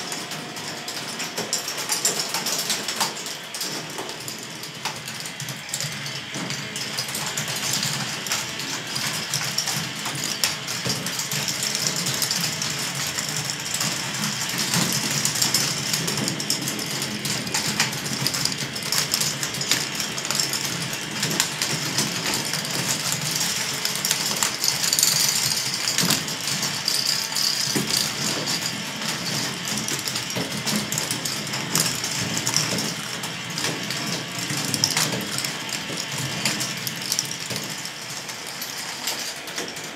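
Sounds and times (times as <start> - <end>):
mechanical whirring and rattling: 0.0 - 39.9
plastic balls clicking along tracks: 0.0 - 39.9.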